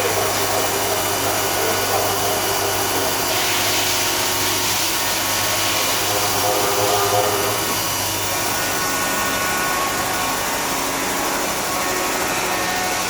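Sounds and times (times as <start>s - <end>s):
machine whirring: 0.0s - 13.0s.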